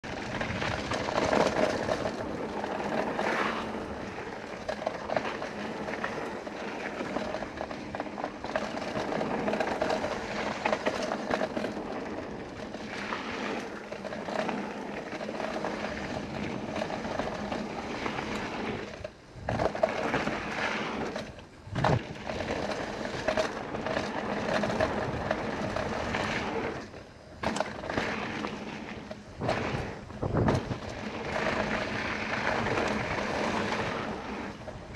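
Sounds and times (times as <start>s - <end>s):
bike rattling over bumps: 0.0s - 34.9s
bike tyres on dirt and gravel: 0.0s - 34.9s.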